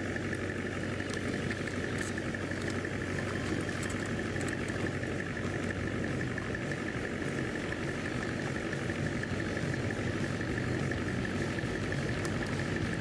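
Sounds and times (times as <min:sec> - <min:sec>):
model tractor motor drone: 0:00.0 - 0:13.0
motor whine: 0:00.0 - 0:13.0
faint ticks: 0:01.0 - 0:06.7, 0:08.1 - 0:13.0.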